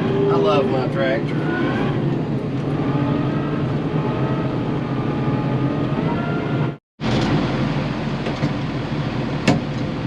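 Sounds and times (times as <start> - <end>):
tractor engine running: 1.3 - 10.0.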